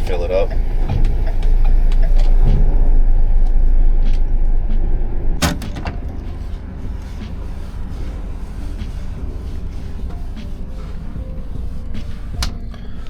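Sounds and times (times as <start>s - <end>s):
truck rumbling from inside cab: 0.0s - 13.0s.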